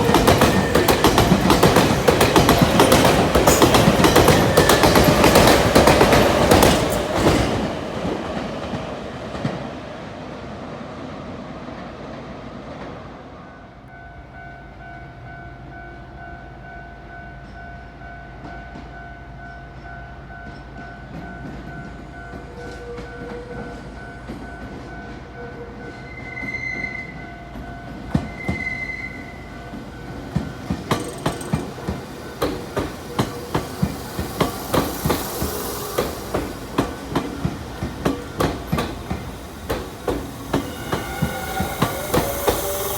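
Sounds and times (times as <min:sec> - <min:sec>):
train passing: 0:00.0 - 0:42.9.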